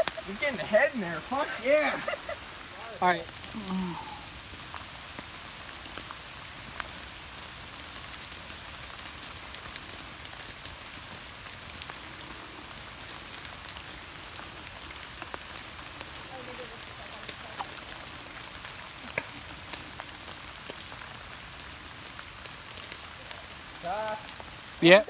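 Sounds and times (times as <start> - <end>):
fire crackles and ticks: 0.0 - 25.0
fire hissing: 0.0 - 25.0.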